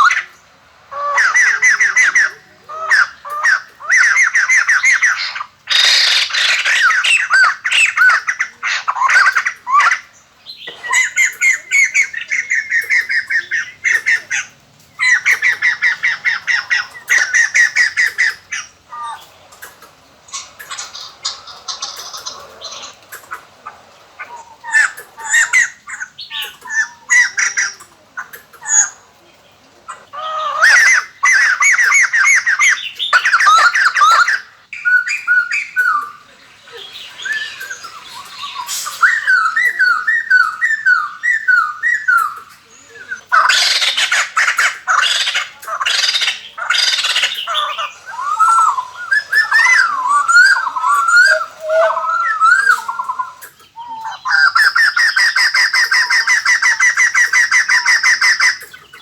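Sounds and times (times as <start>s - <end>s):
bird cackling chatter: 0.0s - 59.0s.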